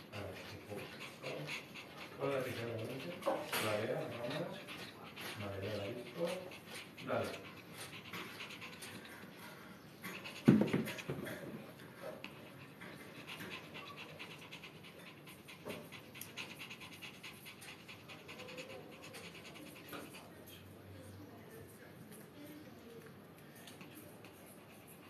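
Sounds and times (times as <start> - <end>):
dog panting: 0.0 - 20.8, 22.1 - 25.0.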